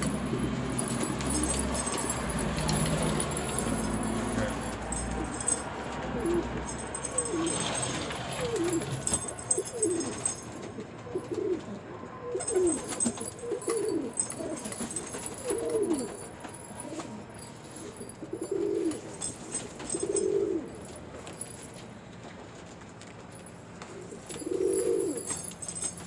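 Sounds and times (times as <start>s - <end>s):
pigeon cooing: 0.0s - 19.2s, 19.9s - 20.8s, 23.9s - 25.4s.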